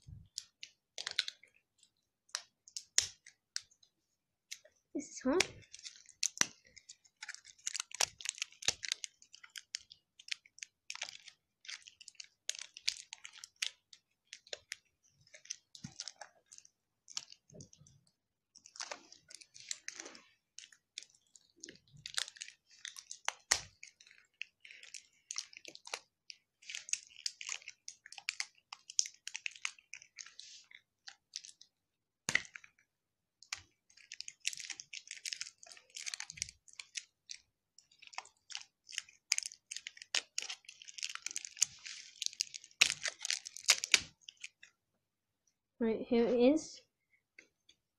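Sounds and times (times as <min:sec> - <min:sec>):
packaging crinkling: 0:00.1 - 0:01.6, 0:04.5 - 0:31.7, 0:33.4 - 0:44.7.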